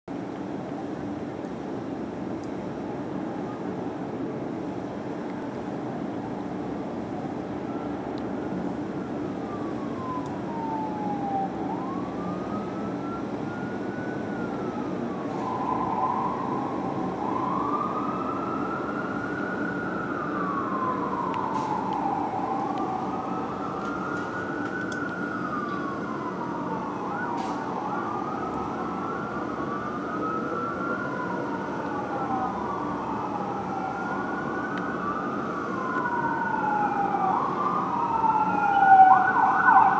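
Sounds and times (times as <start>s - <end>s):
low rumble of engine and traffic: 0.1s - 39.9s
fire engine siren wailing: 0.2s - 39.9s.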